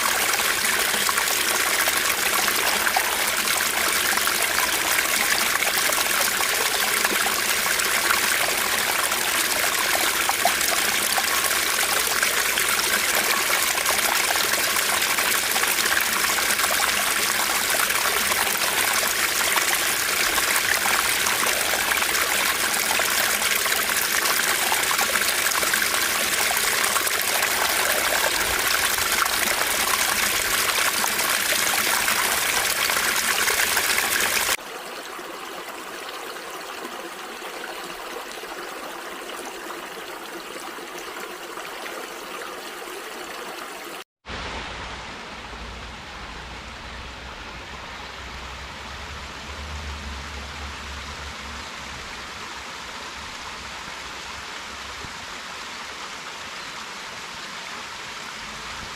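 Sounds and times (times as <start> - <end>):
small stream rushing: 0.0 - 58.9.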